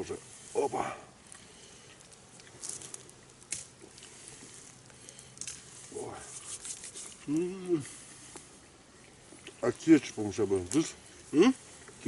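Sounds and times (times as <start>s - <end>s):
campfire crackling and popping: 1.1s - 12.0s.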